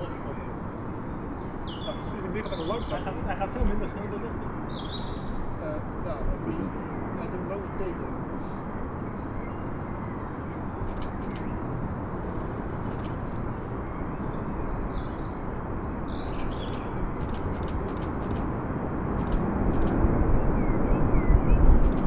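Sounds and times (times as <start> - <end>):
birds chirping: 0.0 - 18.5
distant jet engine rumble: 0.0 - 22.0.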